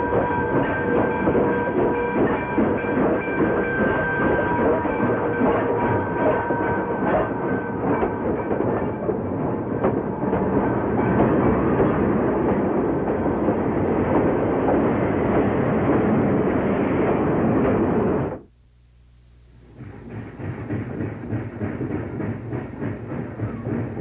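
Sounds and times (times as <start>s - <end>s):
train wheels clattering on rail: 0.0s - 18.4s, 19.6s - 24.0s.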